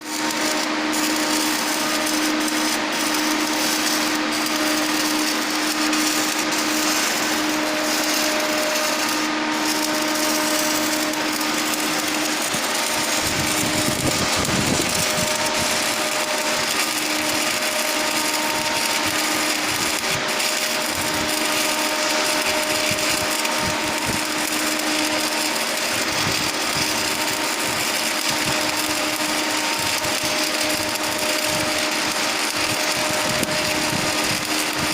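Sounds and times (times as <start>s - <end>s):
machine hum: 0.0s - 34.9s
welding arc hissing: 0.0s - 34.9s.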